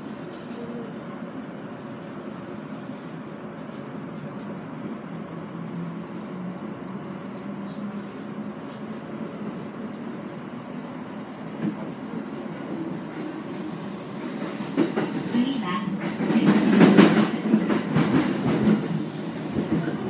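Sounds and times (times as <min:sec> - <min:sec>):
electric train rumble and hum: 0:00.0 - 0:20.0.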